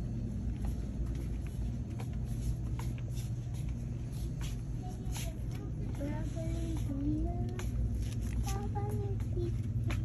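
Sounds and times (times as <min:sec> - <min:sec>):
store background hum: 0:00.0 - 0:10.0
faint clicks and taps: 0:00.5 - 0:10.0.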